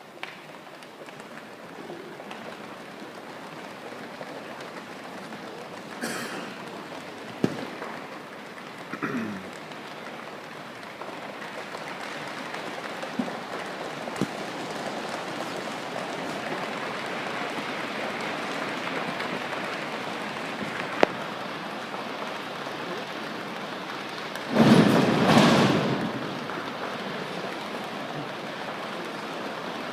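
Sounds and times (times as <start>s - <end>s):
hands patting like rain: 0.0s - 29.9s.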